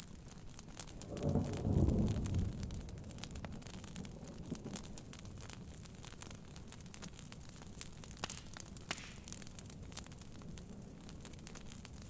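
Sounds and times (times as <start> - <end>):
rain pattering on a tent: 0.0 - 12.0
wood fire crackling: 0.0 - 12.0.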